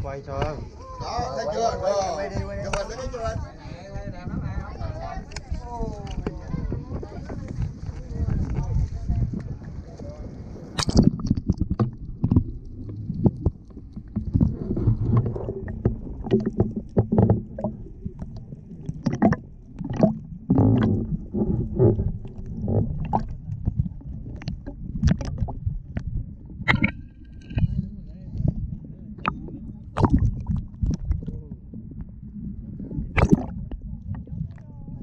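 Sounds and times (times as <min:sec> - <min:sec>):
muffled water sloshing: 0:04.9 - 0:35.0.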